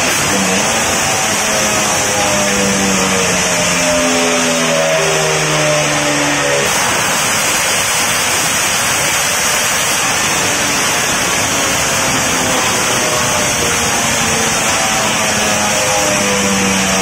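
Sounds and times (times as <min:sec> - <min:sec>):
two-stroke scooter engine revving: 0:00.0 - 0:17.0.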